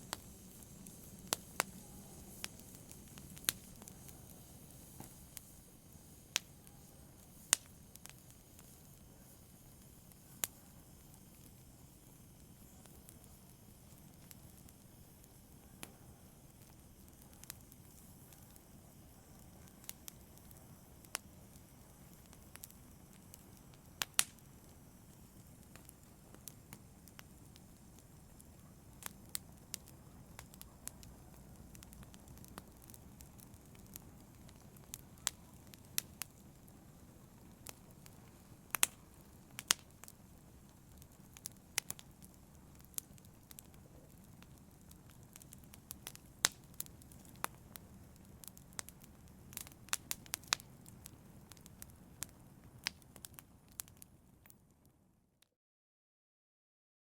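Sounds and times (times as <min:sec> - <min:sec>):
low rush of fire: 0:00.0 - 0:55.0
fire crackling and popping: 0:00.0 - 0:55.4.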